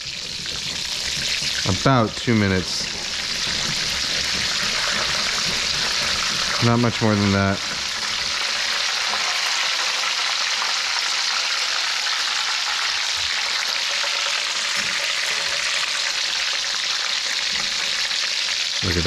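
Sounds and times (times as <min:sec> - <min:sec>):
oil sizzling in deep frying: 0:00.0 - 0:19.0.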